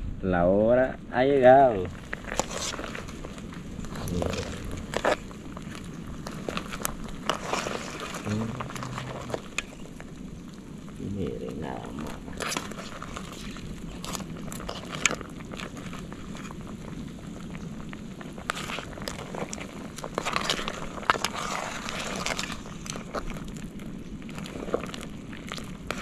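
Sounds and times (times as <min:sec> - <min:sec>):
wood fire crackling: 0:01.0 - 0:26.0
soup boiling rumble: 0:01.4 - 0:26.0.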